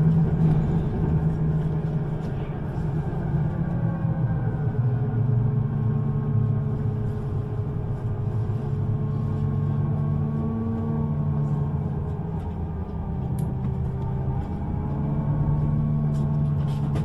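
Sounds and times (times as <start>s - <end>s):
vehicle interior low hum: 0.0s - 17.0s.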